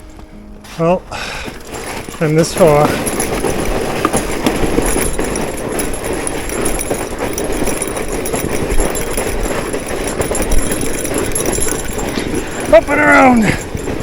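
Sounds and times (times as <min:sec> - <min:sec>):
bike knocking and rattling: 0:00.0 - 0:14.0
fat tyres crunching through snow: 0:00.0 - 0:14.0.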